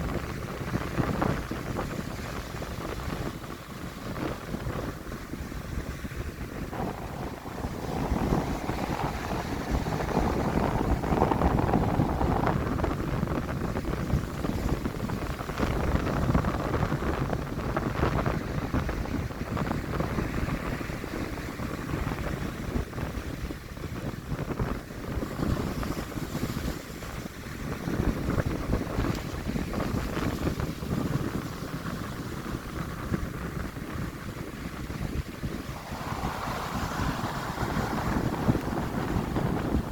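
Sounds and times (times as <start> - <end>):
waves breaking: 0.0 - 39.9
wind buffeting microphone: 0.0 - 39.9.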